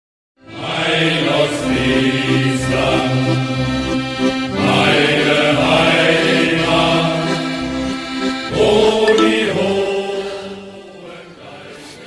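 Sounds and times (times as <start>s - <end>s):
sustained layered background music: 0.4s - 12.0s.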